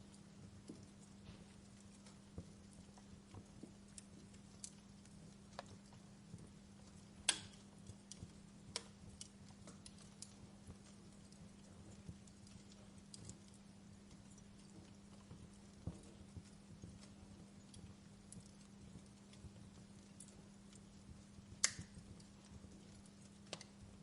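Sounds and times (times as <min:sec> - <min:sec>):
faint low hum: 0:00.0 - 0:24.0
wood fire crackling: 0:00.0 - 0:24.0.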